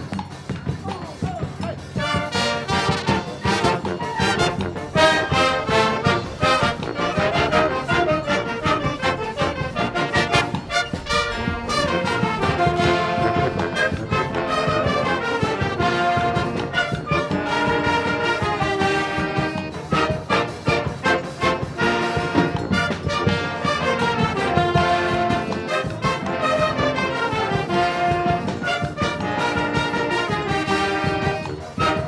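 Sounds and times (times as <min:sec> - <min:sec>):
percussion beat: 0:00.0 - 0:32.0
brass band playing: 0:01.2 - 0:32.0.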